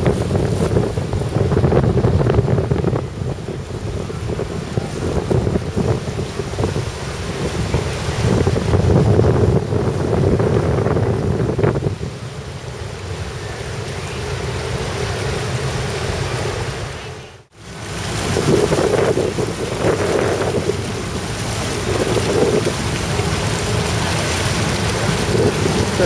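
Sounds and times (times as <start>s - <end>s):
water rushing past boat: 0.0s - 26.0s
wind buffeting microphone: 0.0s - 26.0s.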